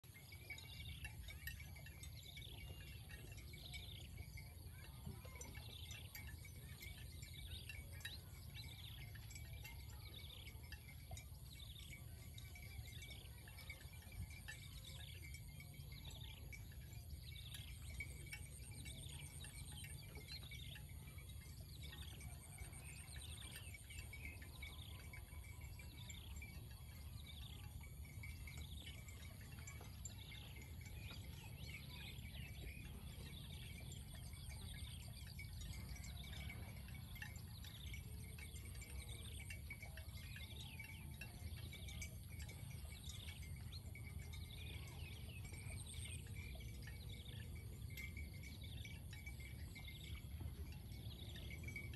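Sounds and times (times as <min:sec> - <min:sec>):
low steady rumble: 0:00.0 - 0:51.9.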